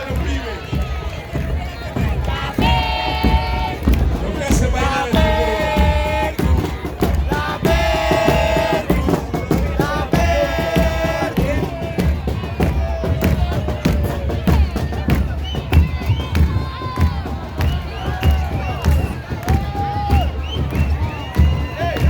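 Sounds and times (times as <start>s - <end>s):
crowd voices: 0.0s - 22.0s
drums and cymbals fast beat: 0.0s - 22.0s.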